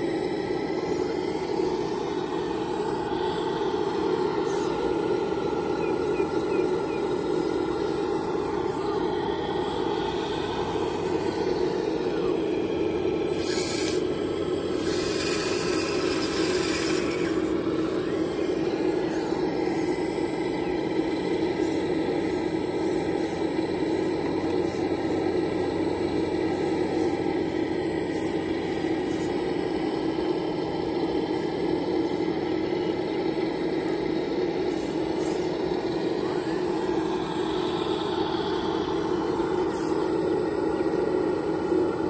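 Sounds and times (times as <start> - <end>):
model excavator mechanical hum: 0.0 - 42.0.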